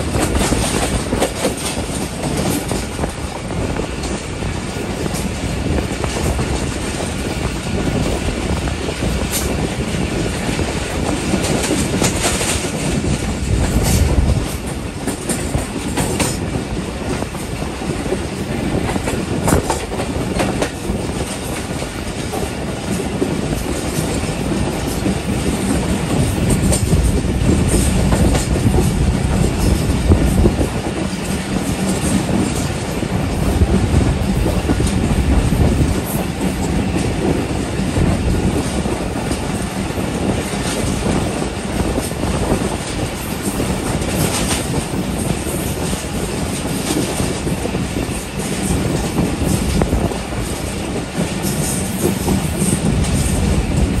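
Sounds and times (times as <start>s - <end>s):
train wheels rumbling on rails: 0.0s - 54.0s
wheels clicking over rail joints: 0.0s - 54.0s.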